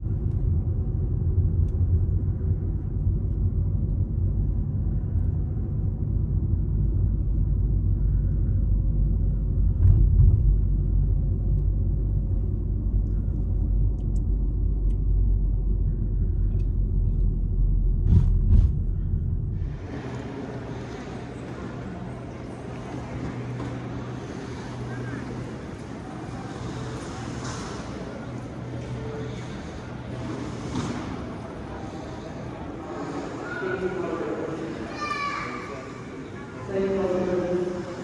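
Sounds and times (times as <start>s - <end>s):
road vehicle rumble: 0.0s - 34.2s.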